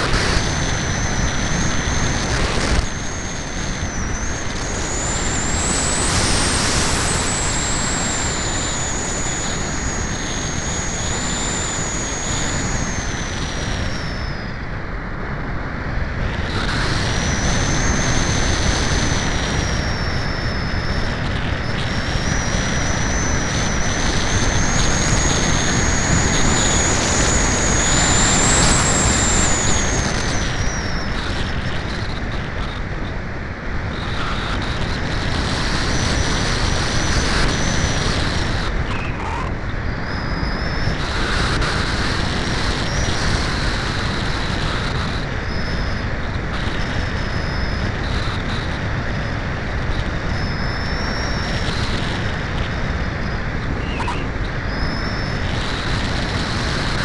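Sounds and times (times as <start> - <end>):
thin high whine: 0.0 - 57.0
wind roaring over microphone: 0.0 - 57.0.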